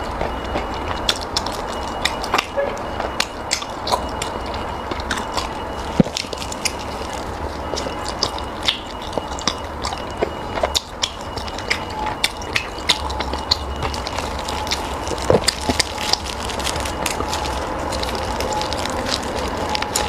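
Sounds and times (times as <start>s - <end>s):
low background rumble: 0.0s - 20.0s
mouth chewing food: 0.0s - 20.0s.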